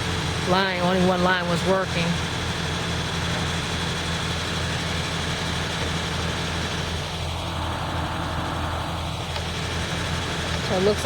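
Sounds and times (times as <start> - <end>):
vacuum truck droning: 0.0 - 11.0.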